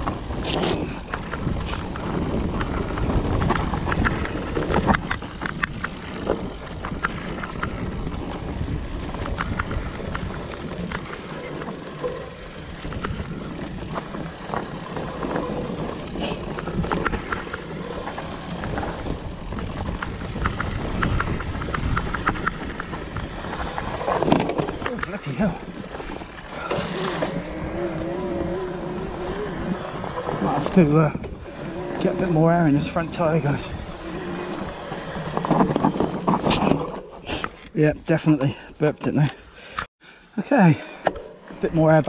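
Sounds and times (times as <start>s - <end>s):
bike clicking and rattling: 0.0s - 39.9s, 40.6s - 42.0s
tyres rumbling over dirt trail: 0.0s - 42.0s.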